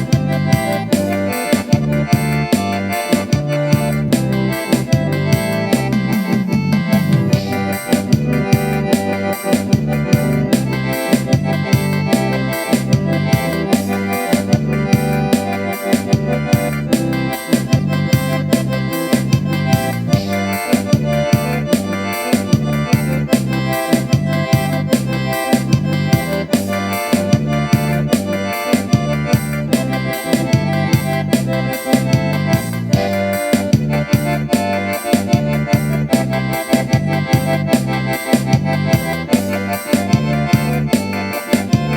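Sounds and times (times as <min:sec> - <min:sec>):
accordion and keyboard music: 0:00.0 - 0:41.9.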